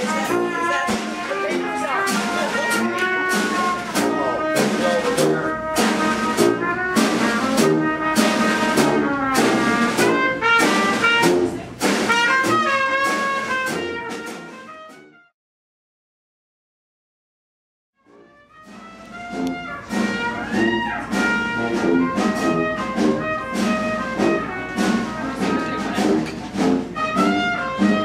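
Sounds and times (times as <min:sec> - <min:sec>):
band music with steady beat: 0:00.0 - 0:15.3, 0:18.1 - 0:28.0.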